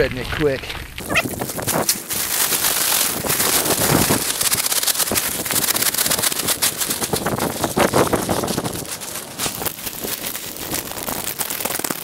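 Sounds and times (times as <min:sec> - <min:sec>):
plastic bag rustling: 0:01.0 - 0:12.0
salt pattering on ice: 0:01.0 - 0:12.0.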